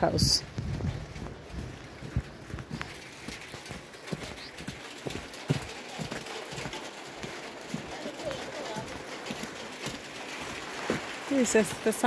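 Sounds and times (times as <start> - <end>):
footsteps on grass: 0.6 - 11.2.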